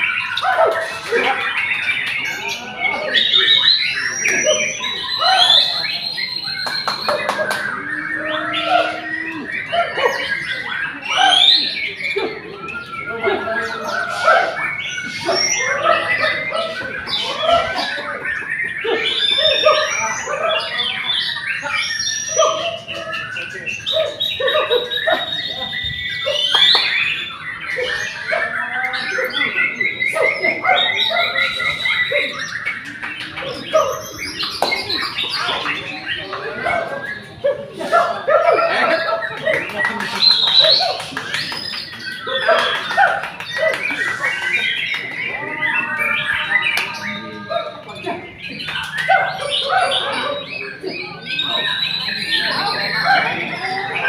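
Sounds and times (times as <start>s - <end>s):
people talking: 0.0s - 54.0s
songbirds singing: 0.0s - 54.0s.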